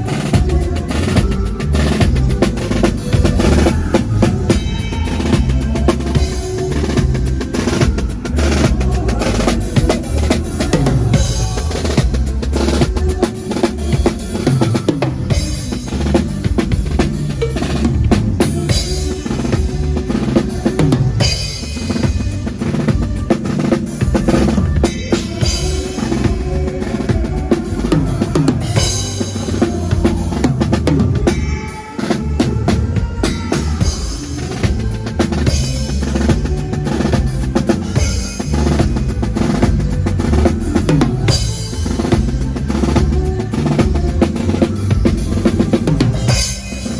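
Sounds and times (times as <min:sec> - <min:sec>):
band playing: 0:00.0 - 0:46.9.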